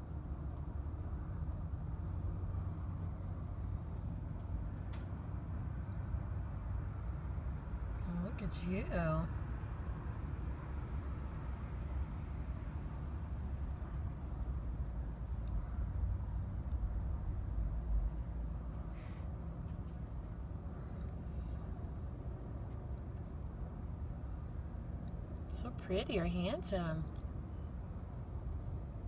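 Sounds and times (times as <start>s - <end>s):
crickets chirping: 0.0s - 29.0s
low background rumble: 0.0s - 29.0s.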